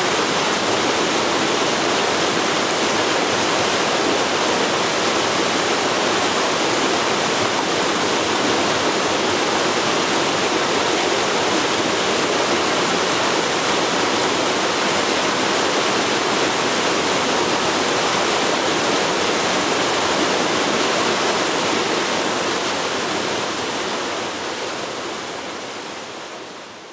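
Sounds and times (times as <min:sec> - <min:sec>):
river rushing: 0:00.0 - 0:26.9.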